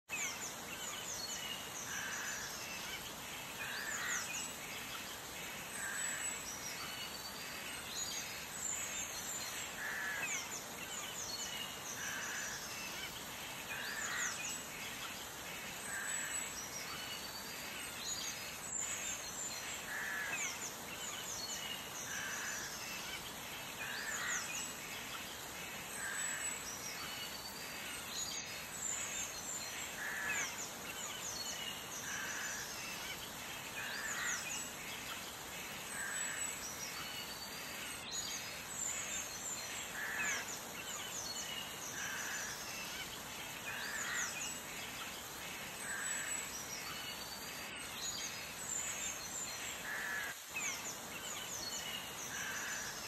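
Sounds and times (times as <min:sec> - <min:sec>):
outdoor hiss: 0:00.1 - 0:53.0.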